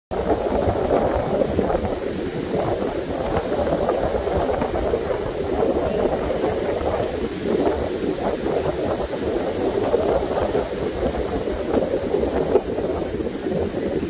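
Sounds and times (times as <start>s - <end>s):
waves breaking on beach: 0.1s - 14.0s.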